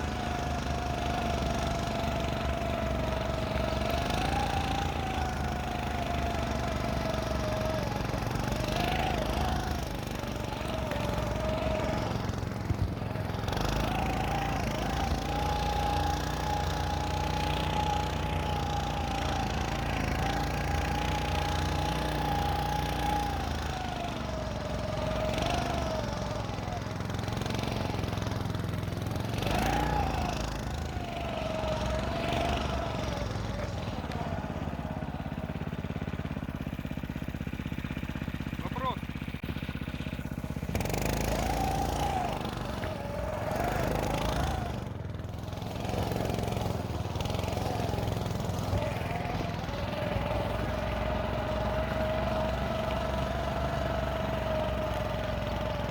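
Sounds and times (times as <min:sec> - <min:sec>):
snow scooter engine revving: 0:00.0 - 0:55.9.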